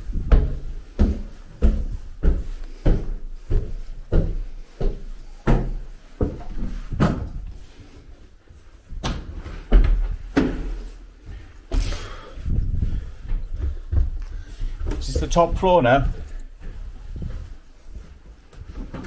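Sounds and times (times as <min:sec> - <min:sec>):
footsteps climbing stairs: 0:00.0 - 0:19.0.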